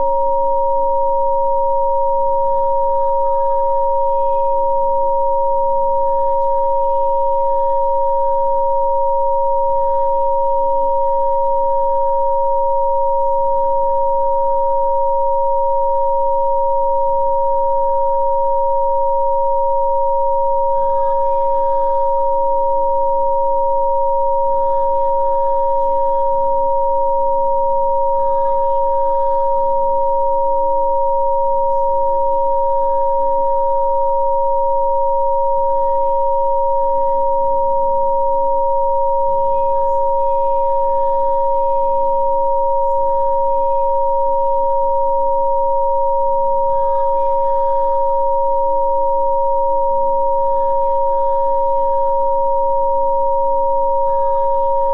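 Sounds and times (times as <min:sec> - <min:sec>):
steady electronic sine tones: 0:00.0 - 0:54.9.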